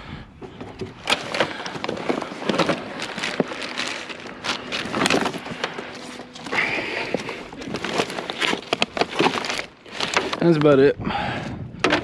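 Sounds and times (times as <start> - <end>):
rummaging through boxes and bags: 0.3 - 11.0.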